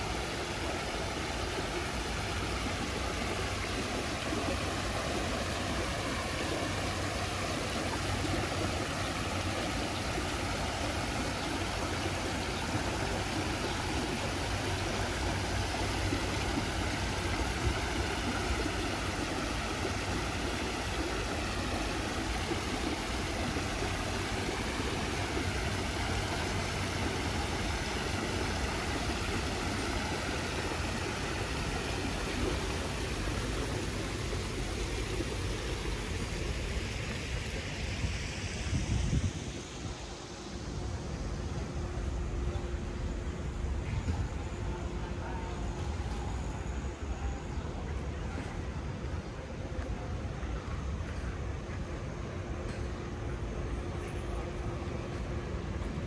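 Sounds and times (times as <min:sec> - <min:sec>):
fountain water splashing: 0:00.0 - 0:56.0
low hum of city traffic: 0:00.0 - 0:56.0.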